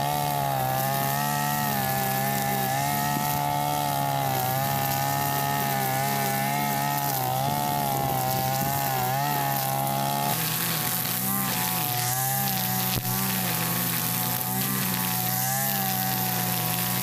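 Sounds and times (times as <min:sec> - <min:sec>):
brush cutter engine running: 0:00.0 - 0:17.0
trimmer line cutting grass: 0:00.0 - 0:17.0.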